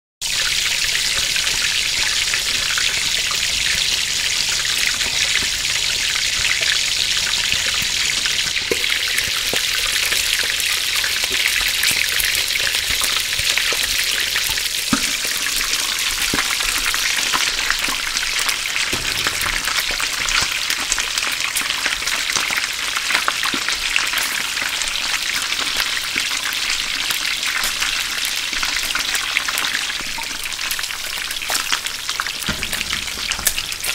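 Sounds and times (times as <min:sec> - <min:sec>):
fries sizzling in hot oil: 0:00.2 - 0:33.9.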